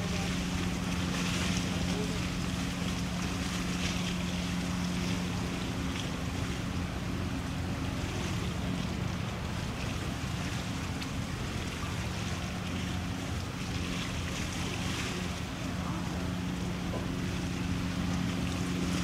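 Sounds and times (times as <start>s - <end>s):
choppy water wash: 0.0s - 19.0s
diesel engine drone: 0.0s - 19.0s.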